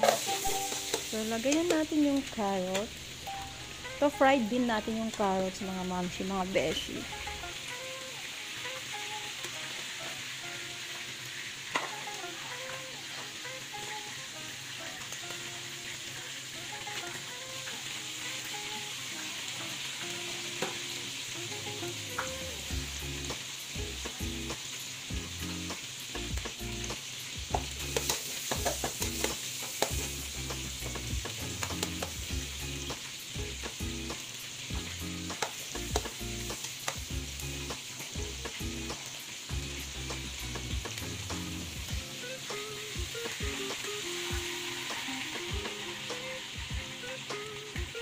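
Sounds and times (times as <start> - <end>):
vegetables sizzling in butter: 0.0 - 48.0.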